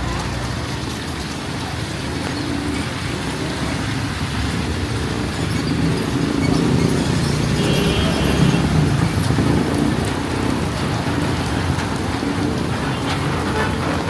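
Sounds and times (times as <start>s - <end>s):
heavy rain hiss: 0.0s - 14.0s
traffic on wet road: 0.0s - 14.0s.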